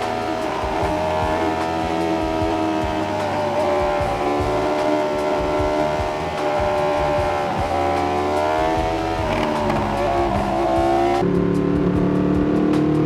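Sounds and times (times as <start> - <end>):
motorcycle engine riding: 0.0 - 11.2.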